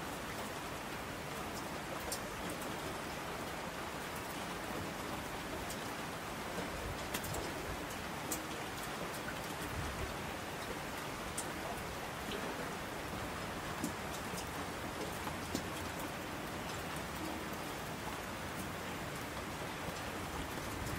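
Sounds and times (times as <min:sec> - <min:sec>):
steady rain falling: 0:00.0 - 0:20.9
sharp taps of raindrops: 0:01.4 - 0:03.1, 0:04.1 - 0:20.9.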